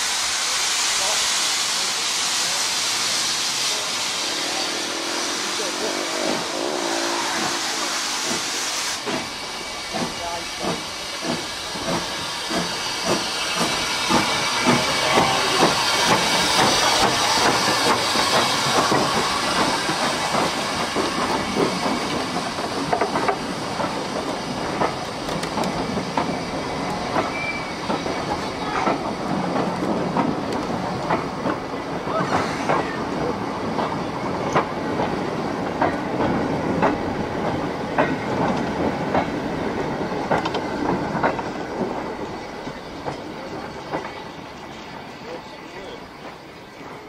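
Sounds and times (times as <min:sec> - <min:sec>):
steam hissing: 0:00.0 - 0:47.0
steam locomotive chuffing: 0:00.0 - 0:47.0.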